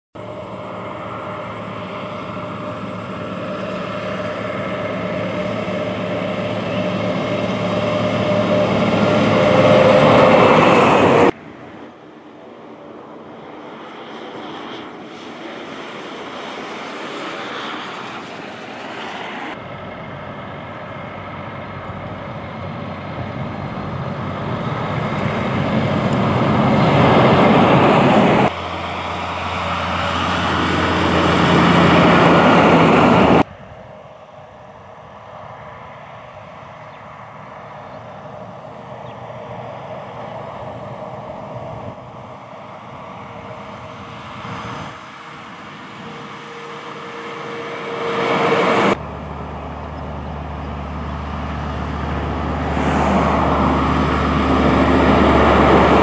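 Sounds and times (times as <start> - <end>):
heavy trucks driving past: 0.2 - 12.8, 17.2 - 56.0.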